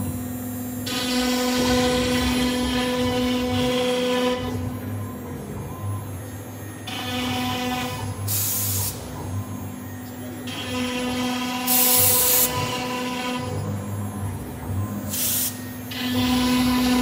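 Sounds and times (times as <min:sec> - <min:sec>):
router motors whining: 0:00.8 - 0:17.0.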